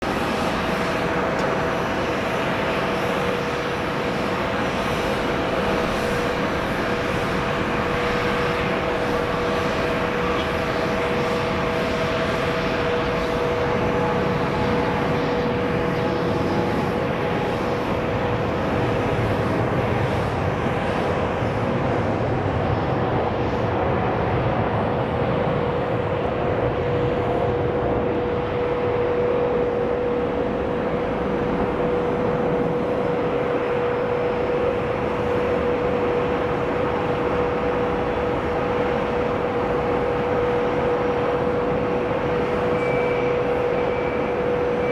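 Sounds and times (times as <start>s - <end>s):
jet engines on takeoff: 0.0s - 44.9s.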